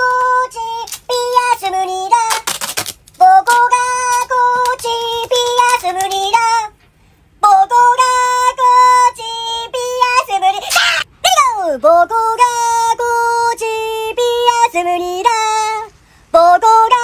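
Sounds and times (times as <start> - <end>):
high-pitched singing voice: 0.0 - 6.8, 7.4 - 17.0.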